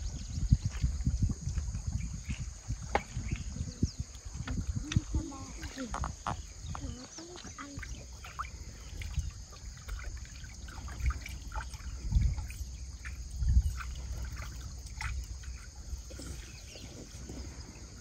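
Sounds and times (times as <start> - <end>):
river water trickling: 0.0 - 18.0.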